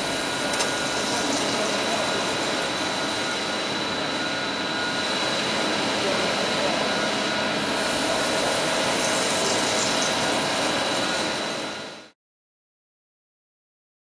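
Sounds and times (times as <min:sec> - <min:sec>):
boring machine cutting with whine: 0:00.0 - 0:12.2.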